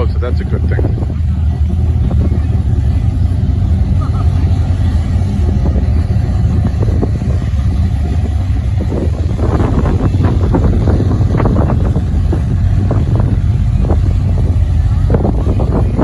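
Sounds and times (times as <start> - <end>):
boat engines idling: 0.0 - 16.0.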